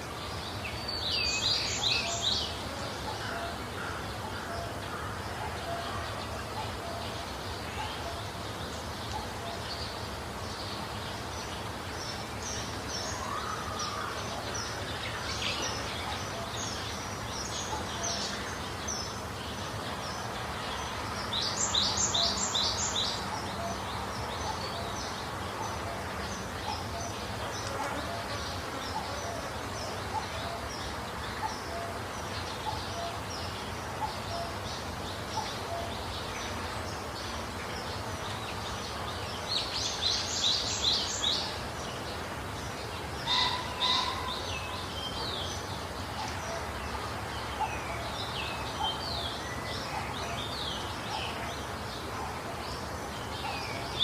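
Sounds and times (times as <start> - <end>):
songbirds chirping: 0.0 - 54.0
steady low background noise: 0.0 - 54.0.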